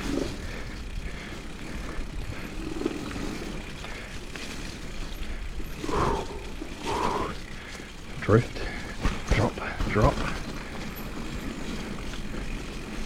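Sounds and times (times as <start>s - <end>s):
bike tyres rumbling on trail: 0.0s - 13.0s.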